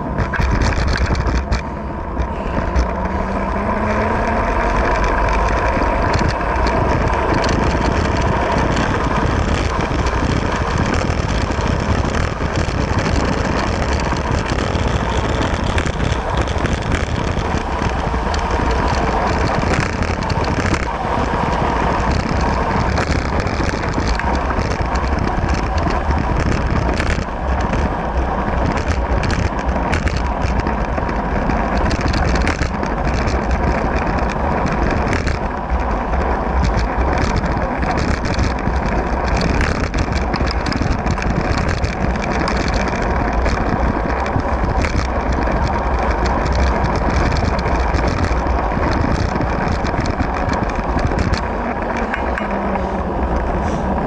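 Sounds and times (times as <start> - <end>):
bicycle tyre noise on asphalt: 0.0 - 54.0
wind buffeting microphone: 0.0 - 54.0.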